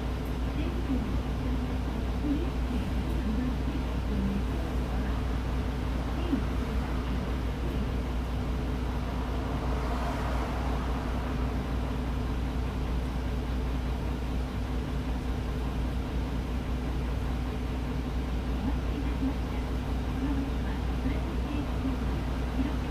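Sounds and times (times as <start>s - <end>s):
bus engine drone: 0.0s - 22.9s
road noise: 0.0s - 22.9s.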